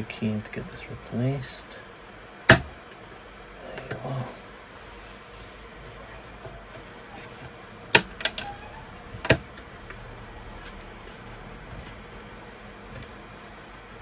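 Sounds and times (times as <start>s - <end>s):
room fan hiss: 0.0s - 14.0s.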